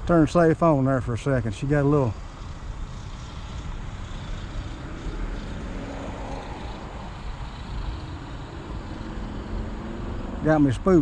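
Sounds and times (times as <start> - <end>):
model plane motor drone: 0.2 - 11.0.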